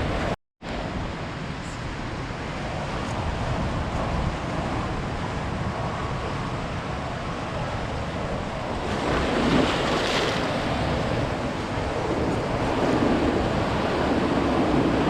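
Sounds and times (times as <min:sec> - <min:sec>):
ocean surf on a beach: 0:00.0 - 0:15.0
wind rumbling on microphone: 0:00.0 - 0:15.0.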